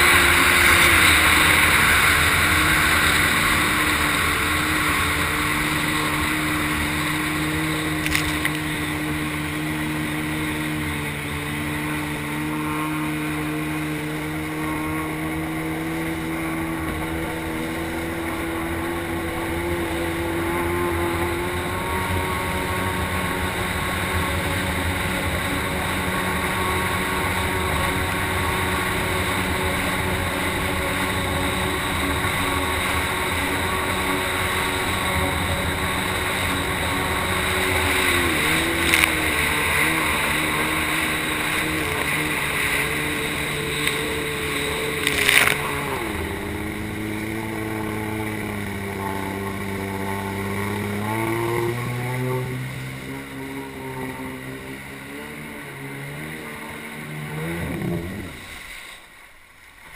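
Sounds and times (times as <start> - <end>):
jet ski engine droning: 0.0 - 59.9
water spray rushing: 0.0 - 59.9
wind: 0.0 - 59.9.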